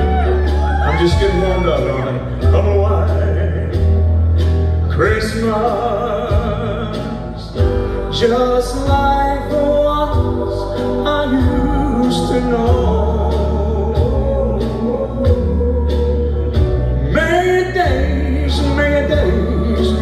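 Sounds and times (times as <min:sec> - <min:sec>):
man singing into a microphone: 0:00.0 - 0:04.0, 0:04.8 - 0:20.0
amplified band with strong bass: 0:00.0 - 0:20.0.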